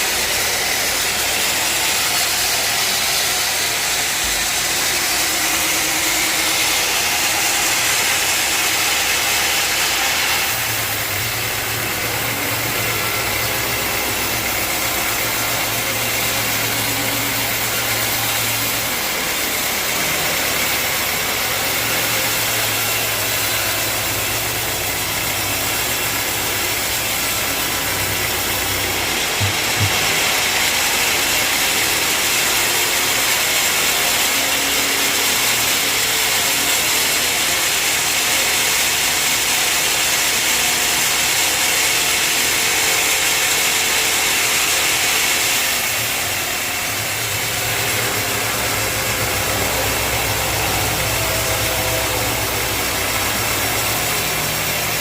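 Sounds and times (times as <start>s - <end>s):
bandsaw machinery running: 0.0s - 55.0s.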